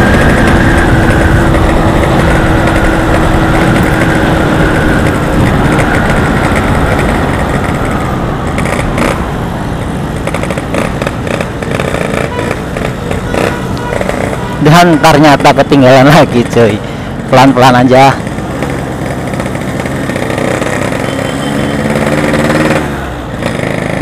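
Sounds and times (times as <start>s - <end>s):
motorcycle engine running: 0.0s - 24.0s
road and wind noise: 0.0s - 24.0s.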